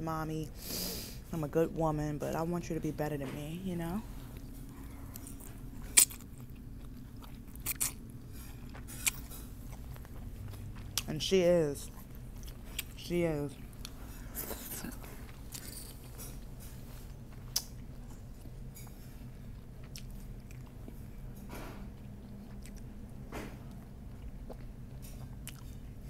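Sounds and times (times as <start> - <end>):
steady low hum: 0.0 - 26.0
person chewing noodles: 4.2 - 11.1, 11.8 - 26.0.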